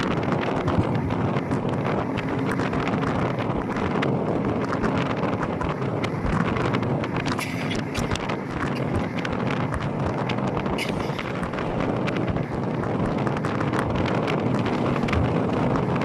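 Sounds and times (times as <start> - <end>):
low road rumble: 0.0 - 16.0
wind buffeting microphone: 0.0 - 16.0.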